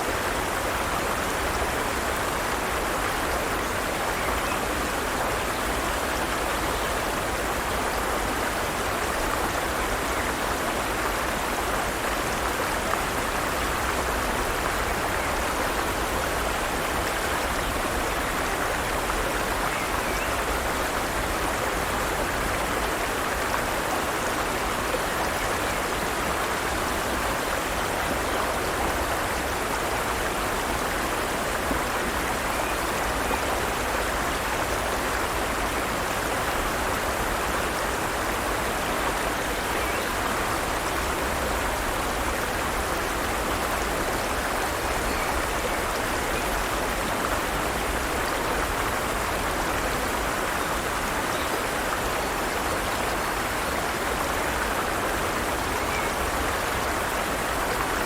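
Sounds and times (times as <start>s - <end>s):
stream water running over rocks: 0.0s - 58.0s.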